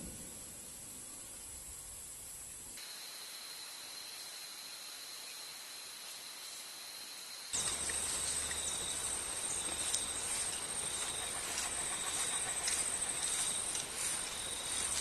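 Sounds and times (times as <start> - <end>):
high insect drone: 0.0 - 15.0
steady hiss: 0.0 - 15.0.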